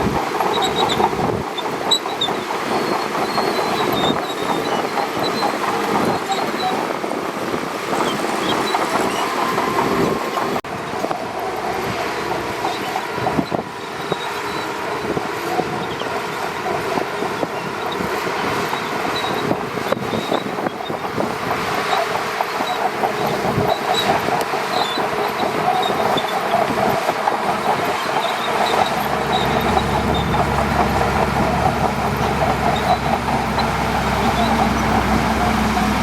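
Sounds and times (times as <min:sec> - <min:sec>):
bulldozer engine under load: 0:00.0 - 0:36.0
steel tracks clattering and squealing: 0:00.0 - 0:36.0.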